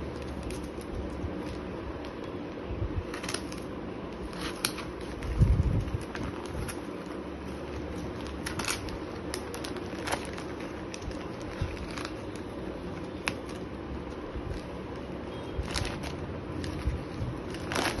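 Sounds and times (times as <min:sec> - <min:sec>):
packaging rustling: 0:00.0 - 0:02.3, 0:03.0 - 0:18.0
low background hum: 0:00.0 - 0:18.0.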